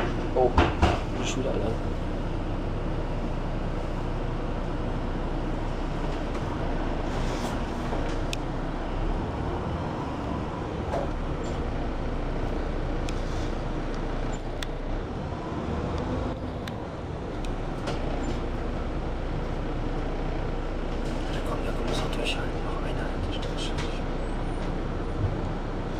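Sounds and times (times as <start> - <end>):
bus engine and road rumble: 0.0 - 25.9.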